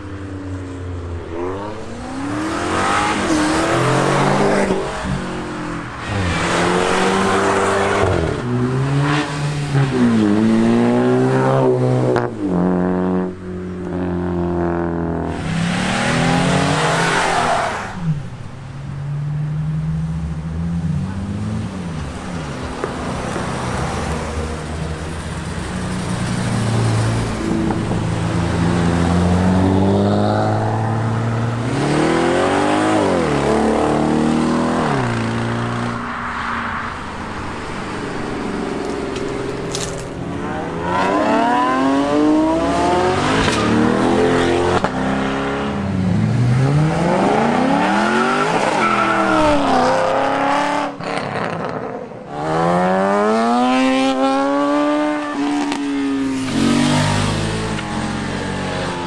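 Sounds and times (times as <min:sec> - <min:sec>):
car engines revving past: 0:00.4 - 0:59.0.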